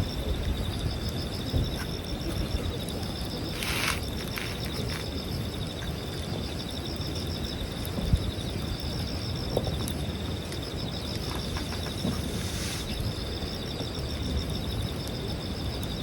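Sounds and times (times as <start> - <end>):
campfire pop: 0.0 - 13.2
insects trilling: 0.0 - 16.0.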